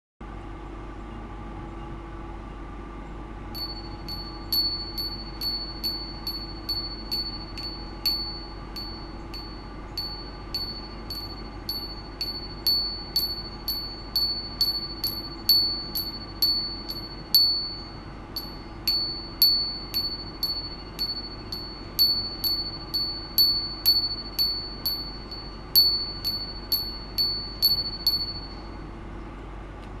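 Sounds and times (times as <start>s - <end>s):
faint electrical hum: 0.2s - 30.0s
metal ring pinging: 3.6s - 28.8s.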